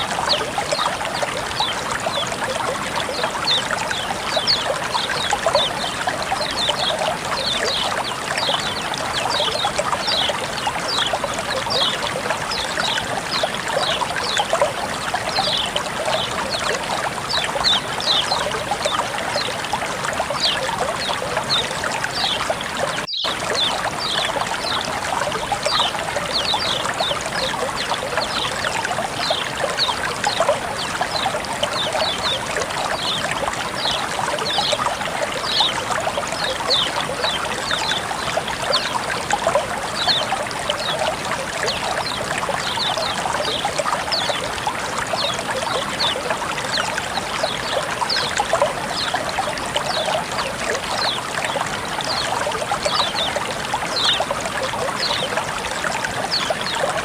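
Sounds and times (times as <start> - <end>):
small water splashes: 0.0 - 57.0
water flowing and trickling: 0.0 - 57.0.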